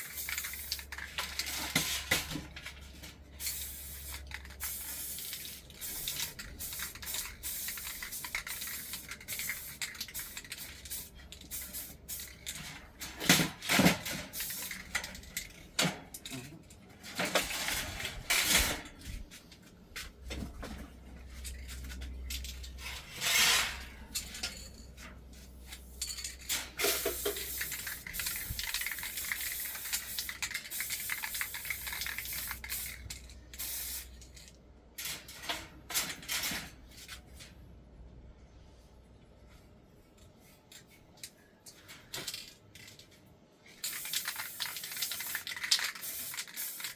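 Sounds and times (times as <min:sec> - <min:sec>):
metal parts clinking and scraping: 0:00.0 - 0:19.2, 0:21.3 - 0:37.5, 0:40.2 - 0:46.9.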